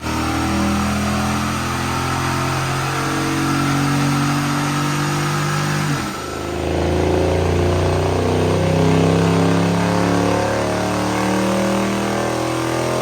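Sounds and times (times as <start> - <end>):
loud car engine exhaust: 0.0 - 13.0.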